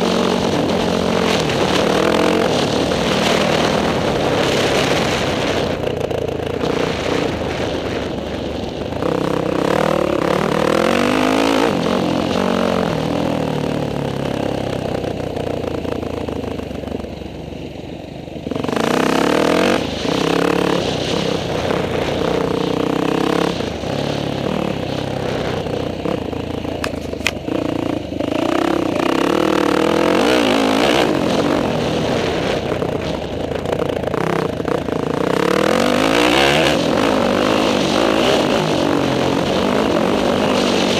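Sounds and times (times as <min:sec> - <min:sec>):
motocross bike engine revving: 0:00.0 - 0:15.0, 0:18.4 - 0:40.9.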